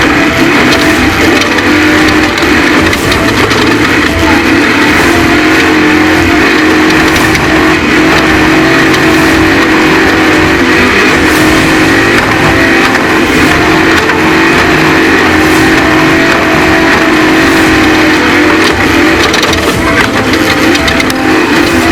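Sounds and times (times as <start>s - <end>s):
continuous noisy rush: 0.0s - 21.9s
truck engine revving high: 0.0s - 21.9s.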